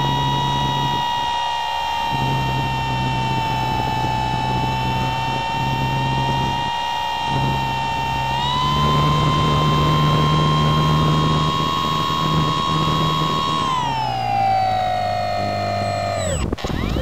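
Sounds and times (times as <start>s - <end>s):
propeller motor whine: 0.0s - 17.0s.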